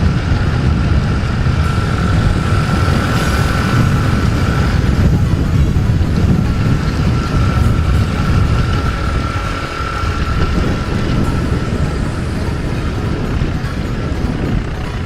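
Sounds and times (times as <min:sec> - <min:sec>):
motorbike engine running: 0:00.0 - 0:15.0
wind buffeting microphone: 0:00.0 - 0:15.0.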